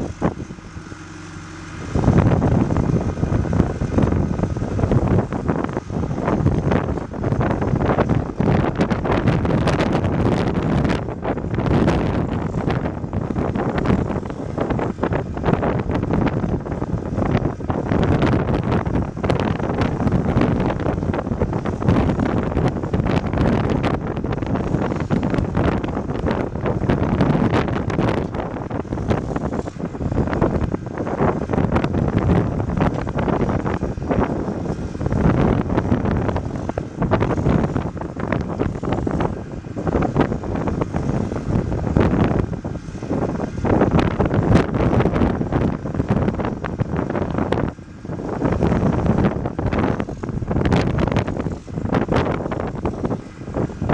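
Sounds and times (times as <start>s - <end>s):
diesel engine running: 0.0s - 53.9s
wind buffeting microphone: 0.0s - 53.9s.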